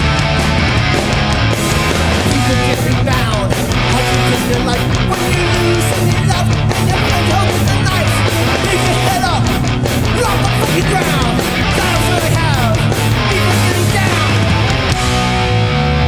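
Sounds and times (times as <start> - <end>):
bass guitar: 0.0 - 16.0
distorted electric guitars: 0.0 - 16.0
drums: 0.0 - 16.0.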